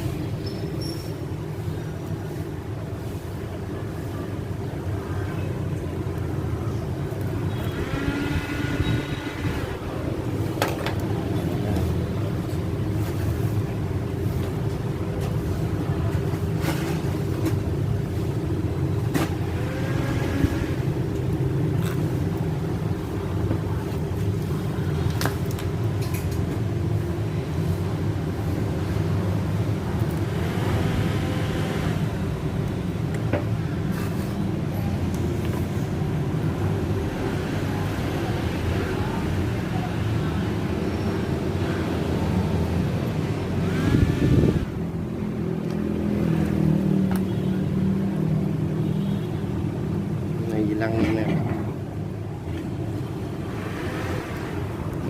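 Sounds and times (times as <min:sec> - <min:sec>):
motorbikes: 0:00.0 - 0:55.0
street traffic rumble: 0:00.0 - 0:55.0.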